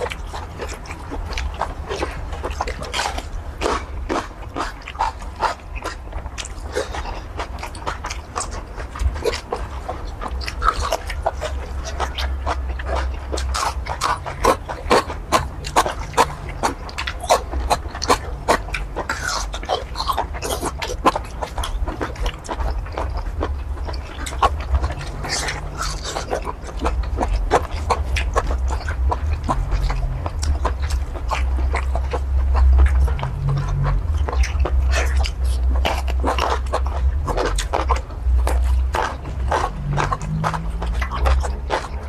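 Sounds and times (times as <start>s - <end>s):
chewing and mouth smacking: 0.0s - 42.0s
low steady hum: 0.0s - 42.0s.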